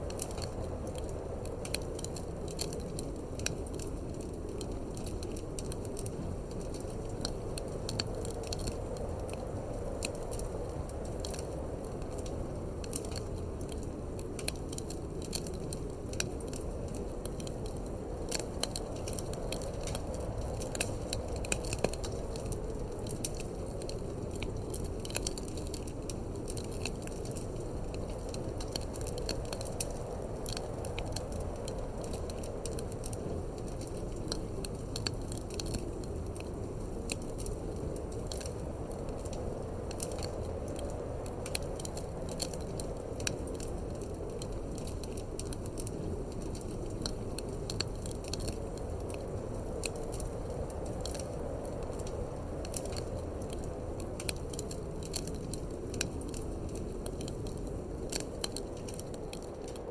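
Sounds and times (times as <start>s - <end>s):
low wind: 0.0s - 59.9s
wood fire crackling and popping: 0.0s - 59.9s.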